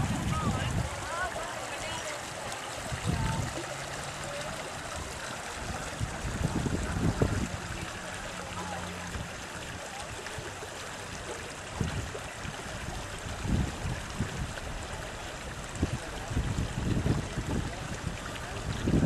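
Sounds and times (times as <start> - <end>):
wind buffeting microphone: 0.0 - 1.3, 2.8 - 9.8, 11.6 - 19.0
floodwater rushing: 0.0 - 19.0.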